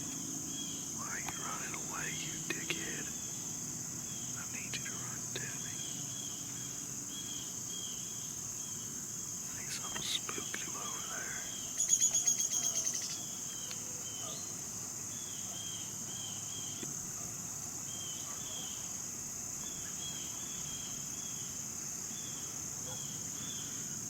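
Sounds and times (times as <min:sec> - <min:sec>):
insect chirps: 0:00.0 - 0:24.0
insects trilling: 0:00.0 - 0:24.0.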